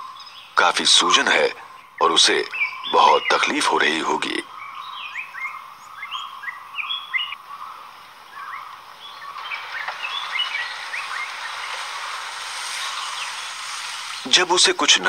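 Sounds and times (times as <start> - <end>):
birds chirping: 0.0 - 15.0
faint background noise: 0.0 - 15.0.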